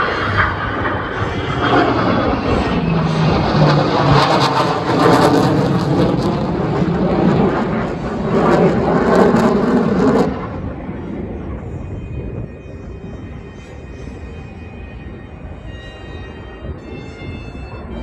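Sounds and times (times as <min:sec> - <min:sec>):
jet aircraft flying past: 0:00.0 - 0:18.0.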